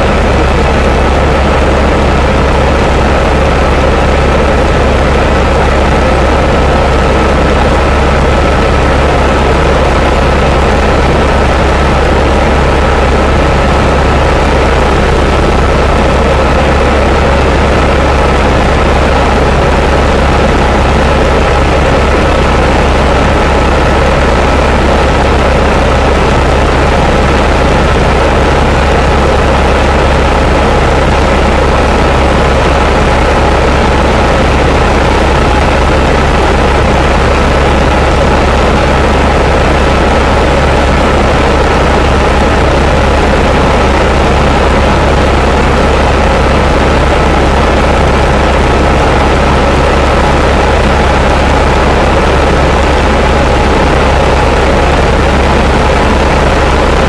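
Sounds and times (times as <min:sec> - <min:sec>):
helicopter rotor and engine rumble: 0:00.0 - 0:57.0
high whine: 0:00.0 - 0:57.0.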